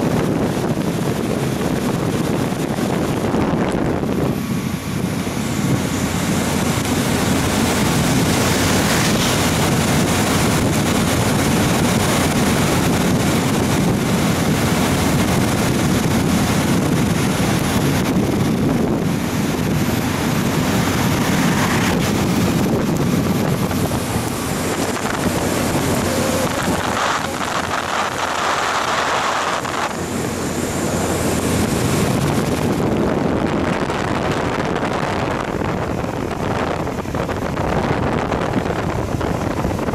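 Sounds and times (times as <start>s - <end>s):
wind buffeting microphone: 0.0s - 39.9s
low rumble: 2.6s - 39.9s.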